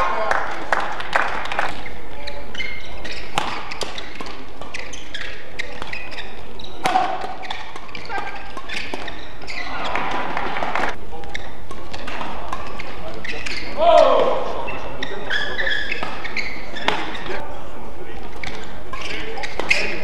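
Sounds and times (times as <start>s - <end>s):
rackets hitting shuttlecock: 0.0s - 17.4s, 18.3s - 20.0s
shoes squeaking on court: 1.4s - 17.5s, 18.1s - 20.0s.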